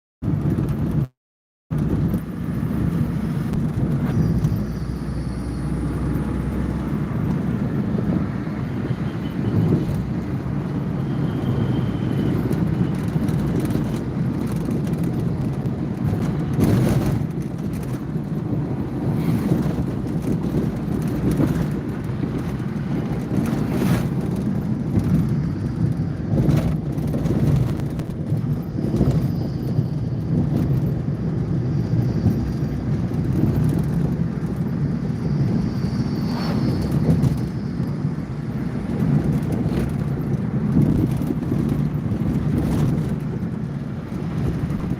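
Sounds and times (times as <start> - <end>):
car road and engine rumble: 0.2 - 1.1, 1.7 - 44.9.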